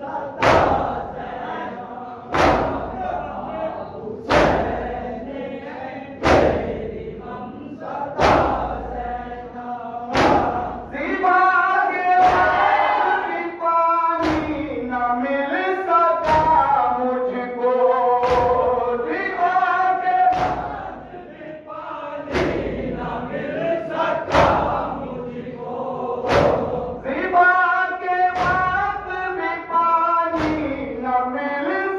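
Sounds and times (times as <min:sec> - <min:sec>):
crowd slapping chests in unison: 0:00.0 - 0:13.4, 0:14.2 - 0:14.9, 0:16.0 - 0:17.0, 0:18.0 - 0:31.0
group chanting a lament: 0:00.0 - 0:31.9.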